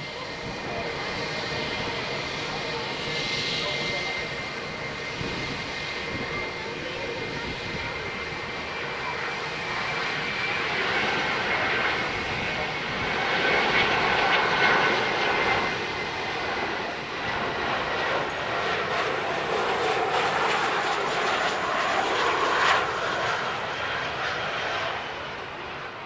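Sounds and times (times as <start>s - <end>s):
jet engine noise with high whine: 0.0s - 26.0s.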